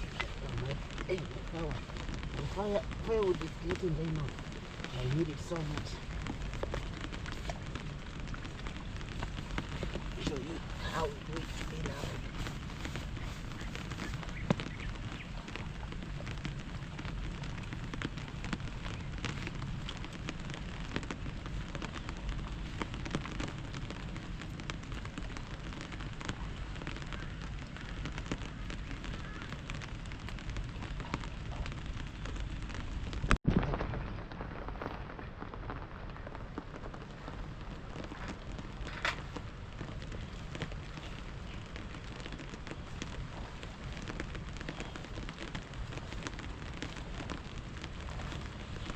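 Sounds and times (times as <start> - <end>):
water drip ticks: 0.0 - 33.4, 35.4 - 48.9
rain pattering: 0.0 - 48.9.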